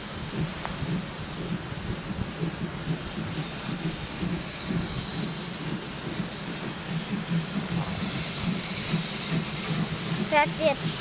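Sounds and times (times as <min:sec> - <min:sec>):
steam locomotive exhaust chuffing: 0:00.0 - 0:11.0
train rumble: 0:00.0 - 0:11.0.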